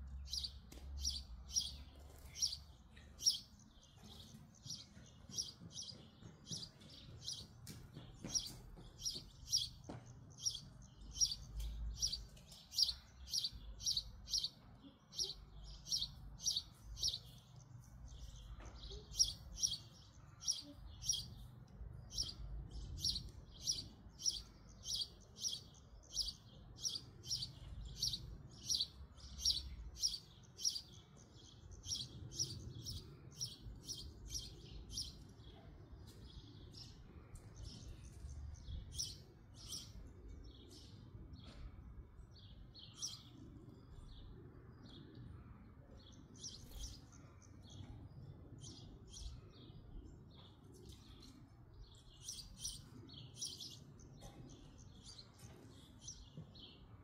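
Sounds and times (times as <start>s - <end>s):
small bird chirping: 0.1s - 41.7s, 46.0s - 56.9s.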